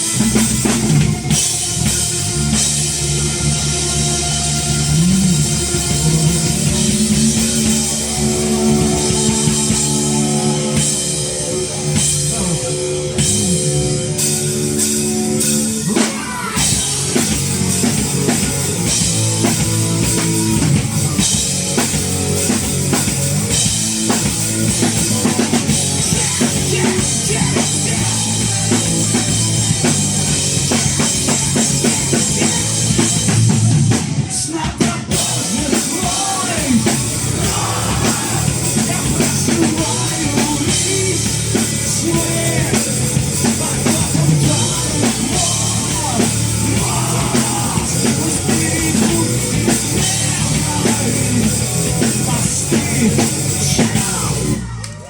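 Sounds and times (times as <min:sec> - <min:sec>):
rock band playing instrumental: 0:00.0 - 0:55.0.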